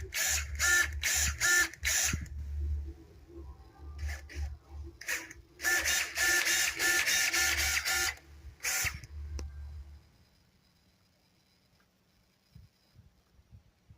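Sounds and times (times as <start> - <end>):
small motor pulsing with whine: 0.0 - 13.3.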